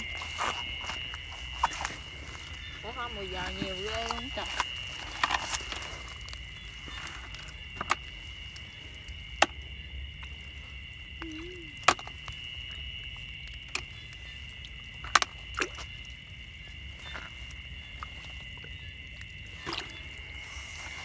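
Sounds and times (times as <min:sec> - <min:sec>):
night insects chorus: 0:00.0 - 0:21.0
small water splashes: 0:00.0 - 0:21.0.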